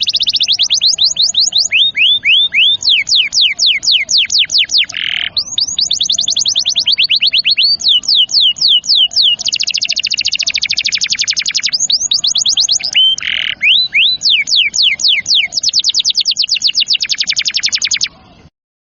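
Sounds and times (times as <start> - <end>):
canary singing: 0.0 - 18.5.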